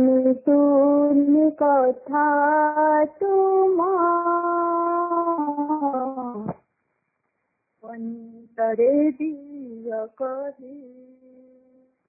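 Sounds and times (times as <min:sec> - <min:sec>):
woman singing devotional song: 0:00.0 - 0:06.7, 0:07.8 - 0:12.0.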